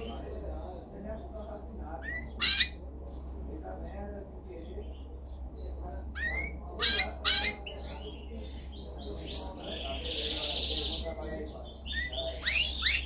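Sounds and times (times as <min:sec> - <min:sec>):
canary singing: 0:00.0 - 0:03.3, 0:04.6 - 0:13.0.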